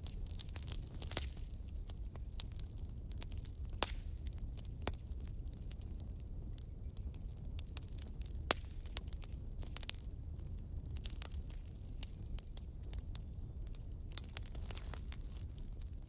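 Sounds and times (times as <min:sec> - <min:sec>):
campfire crackling: 0:00.0 - 0:16.0
fire popping: 0:00.0 - 0:16.0.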